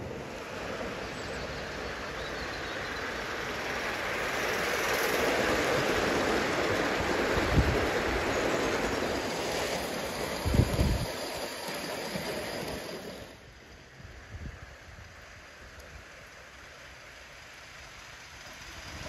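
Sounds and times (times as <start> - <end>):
escaping steam: 0.0 - 19.0
model train wheels on rails: 0.0 - 19.0.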